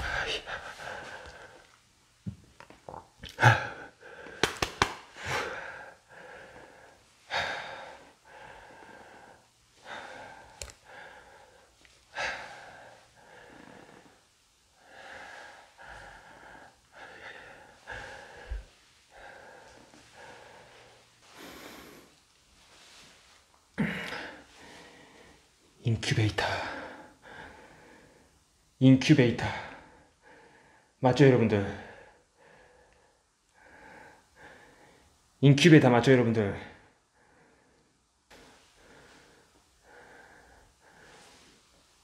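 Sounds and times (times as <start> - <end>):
person breathing heavily: 0.0 - 1.8, 3.3 - 25.6, 26.4 - 28.4, 29.4 - 31.0, 31.6 - 35.2, 36.7 - 42.0.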